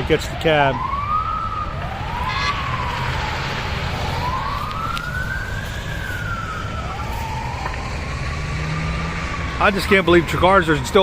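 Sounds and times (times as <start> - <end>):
emergency siren wailing: 0.0 - 11.0
road traffic rumble: 0.0 - 11.0.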